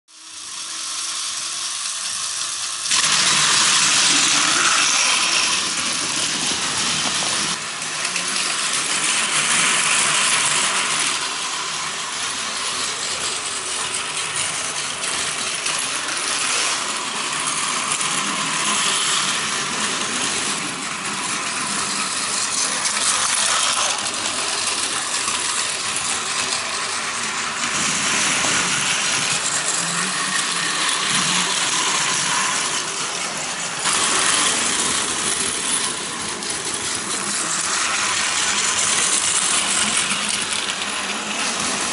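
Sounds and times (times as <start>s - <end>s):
toy train motor whirring: 0.1s - 41.9s
wheels clattering over track joints: 2.2s - 41.9s.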